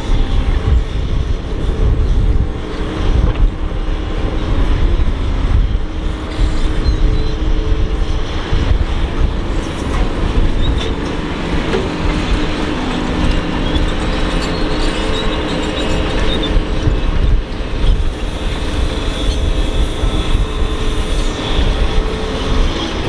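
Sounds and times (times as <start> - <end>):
excavator engine rumbling: 0.0 - 23.0.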